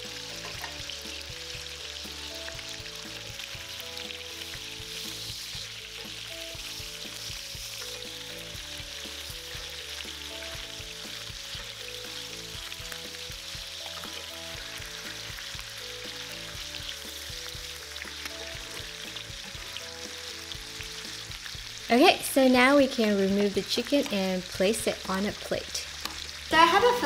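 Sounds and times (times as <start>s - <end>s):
chicken sizzling in hot oil: 0.0s - 27.0s
light background music: 0.0s - 27.0s.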